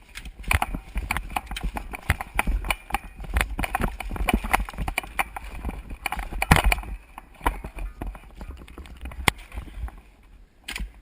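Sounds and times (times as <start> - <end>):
gear rattling: 0.0 - 10.1
footsteps: 0.0 - 10.2.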